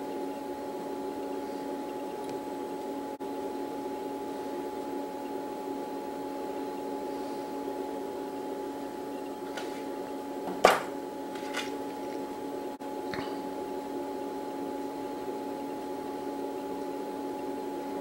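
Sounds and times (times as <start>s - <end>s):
steady tonal hum: 0.0s - 18.0s.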